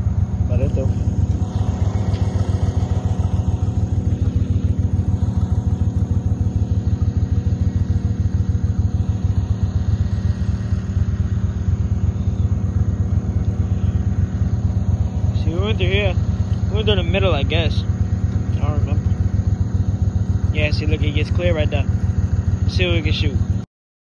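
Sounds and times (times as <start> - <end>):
small gasoline engine droning: 0.0 - 23.7.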